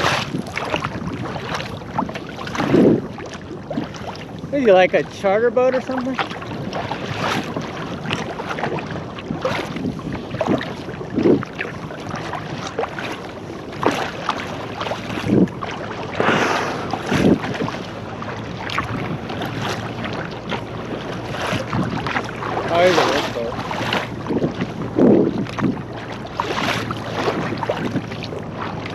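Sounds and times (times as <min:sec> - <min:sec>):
water splashing against kayak: 0:00.0 - 0:28.9
wind buffeting microphone: 0:00.0 - 0:28.9.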